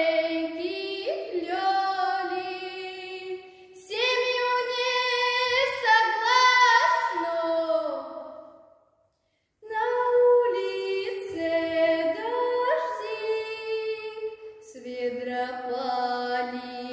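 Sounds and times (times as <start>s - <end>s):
girl singing unaccompanied: 0.0s - 8.2s, 9.6s - 16.9s.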